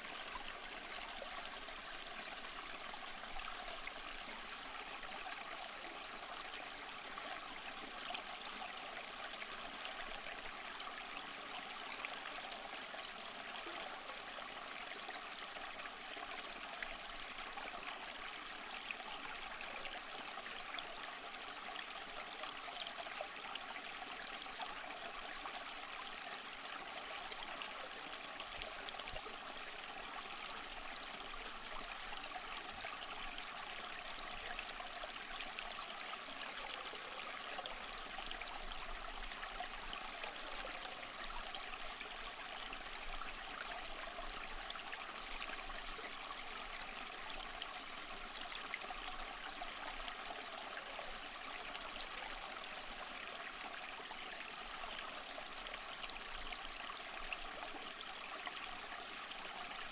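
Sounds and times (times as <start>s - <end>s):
stream water trickling over rocks: 0.0s - 59.9s.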